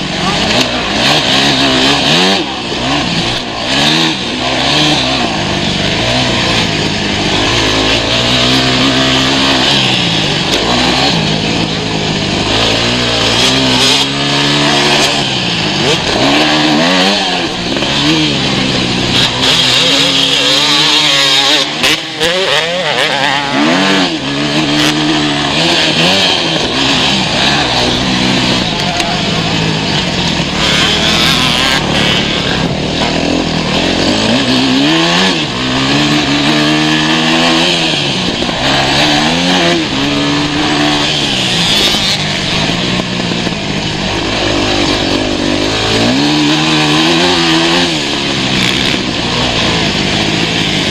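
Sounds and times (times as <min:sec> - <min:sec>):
motocross bike engines revving: 0:00.0 - 0:50.9.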